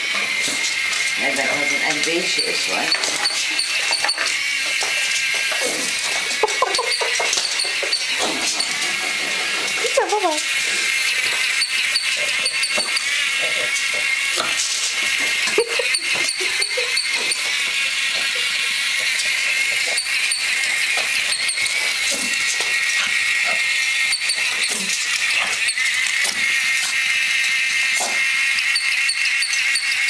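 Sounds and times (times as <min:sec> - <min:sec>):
clicks and rattles on tiled floor: 0:00.0 - 0:30.0
toy motor whirring: 0:00.0 - 0:30.0.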